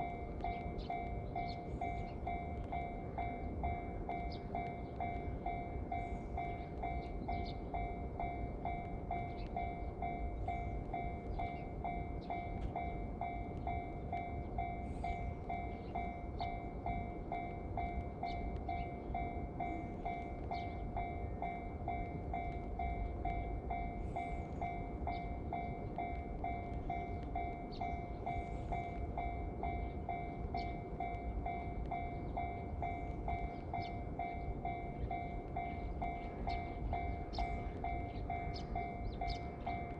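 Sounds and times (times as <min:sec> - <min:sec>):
level-crossing alarm ringing: 0:00.0 - 0:39.9
steady low rumble: 0:00.0 - 0:39.9.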